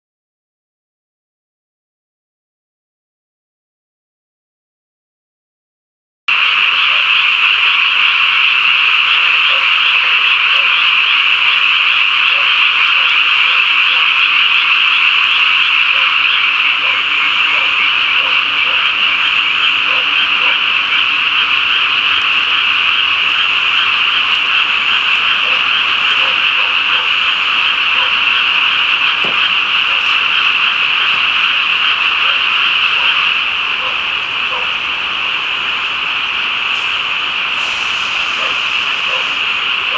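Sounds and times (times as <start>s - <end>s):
chorus of frogs calling: 6.3s - 39.9s.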